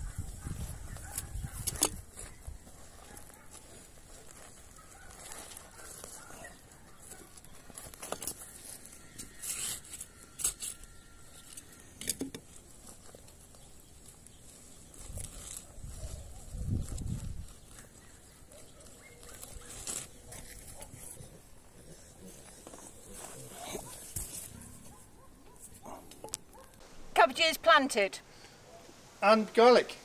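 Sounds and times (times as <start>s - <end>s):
trowel scraping soil: 0.8s - 25.9s.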